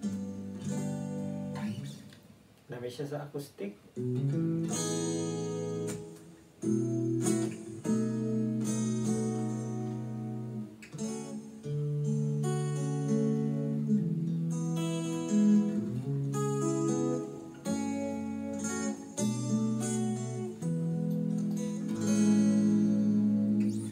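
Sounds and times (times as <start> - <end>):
acoustic guitar strummed chords: 0.0 - 2.0, 4.0 - 23.9.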